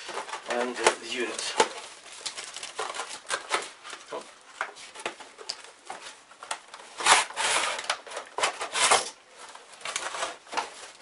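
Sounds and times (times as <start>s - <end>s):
cardboard and plastic scraping: 0.0s - 11.0s
packaging rustling: 0.0s - 11.0s.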